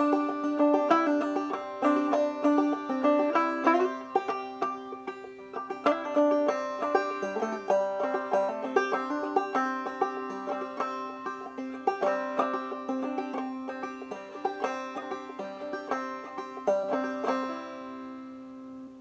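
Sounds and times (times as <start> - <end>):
banjo plucked notes: 0.0 - 19.0.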